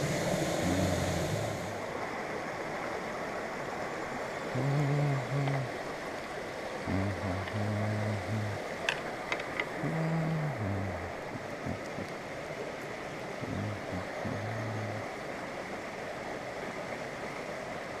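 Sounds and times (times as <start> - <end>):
fast river rushing: 0.0 - 18.0.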